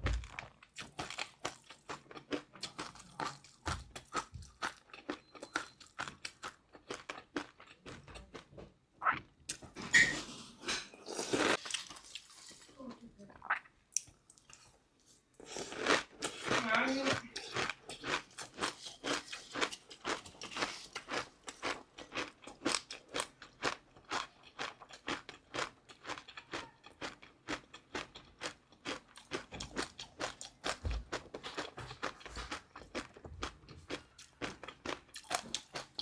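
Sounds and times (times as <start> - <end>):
chewing crunchy food: 0.1 - 9.8, 10.8 - 36.0.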